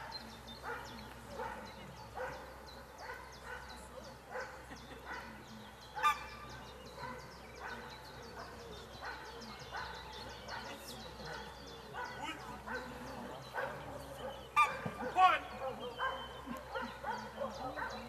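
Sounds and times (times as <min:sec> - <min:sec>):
dog barking: 0:00.0 - 0:02.4, 0:03.0 - 0:05.4, 0:06.0 - 0:06.2, 0:07.0 - 0:15.2, 0:16.0 - 0:18.0.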